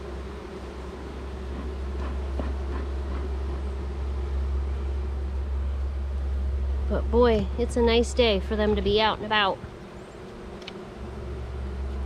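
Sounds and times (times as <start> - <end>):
honeybees buzzing: 0.0 - 12.0
steady low rumble: 0.0 - 12.0.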